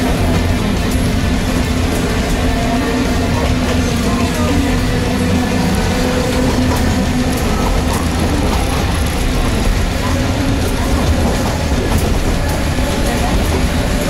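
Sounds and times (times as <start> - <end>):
wheels clacking over points: 0.0 - 14.0
wheels rumbling on rail: 0.0 - 14.0.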